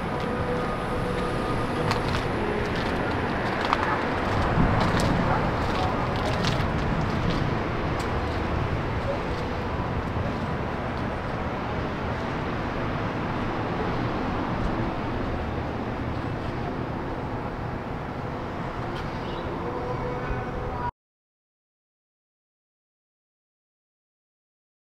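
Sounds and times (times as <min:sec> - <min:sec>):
road noise: 0:00.0 - 0:20.9.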